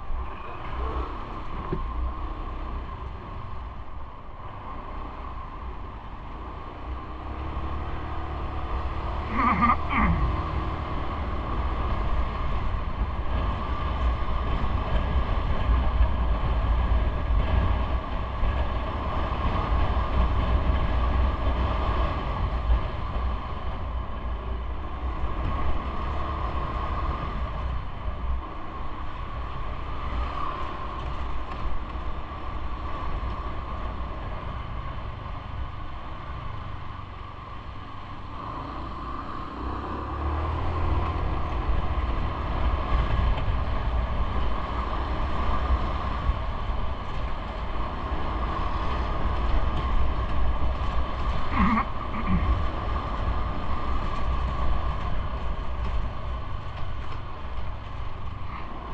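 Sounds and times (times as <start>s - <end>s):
rumbling travel noise: 0.0s - 58.9s.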